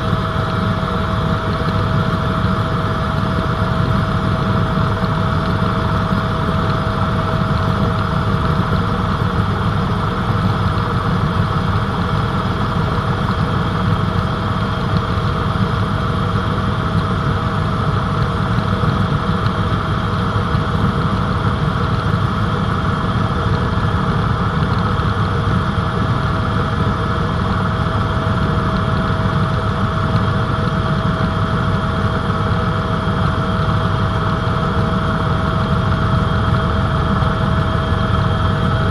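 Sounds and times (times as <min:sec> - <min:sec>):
helicopter engine and rotor: 0:00.0 - 0:38.9
helicopter whine: 0:00.0 - 0:38.9.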